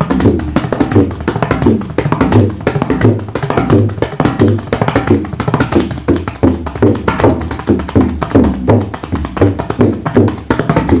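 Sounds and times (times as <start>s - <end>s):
tabla chugging rhythm: 0.0s - 11.0s.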